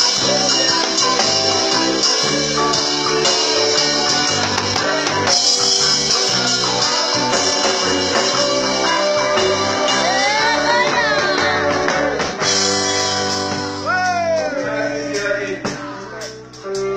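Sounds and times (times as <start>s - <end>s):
person singing: 0.0s - 16.9s
reggae band playing: 0.0s - 16.9s.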